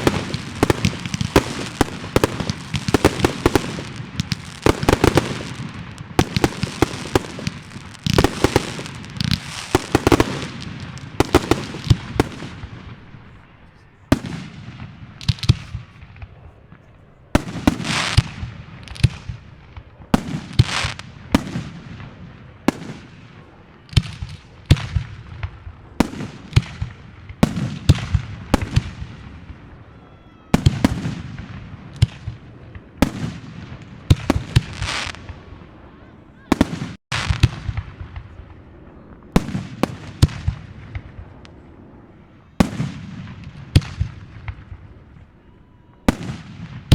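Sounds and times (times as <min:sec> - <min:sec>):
fireworks bursting with bangs: 0:00.0 - 0:46.9.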